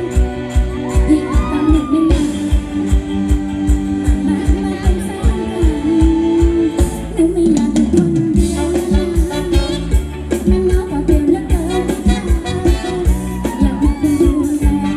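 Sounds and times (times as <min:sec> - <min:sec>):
dance band playing: 0:00.0 - 0:14.9
person singing: 0:00.0 - 0:14.9
steady drum beat: 0:00.0 - 0:14.9.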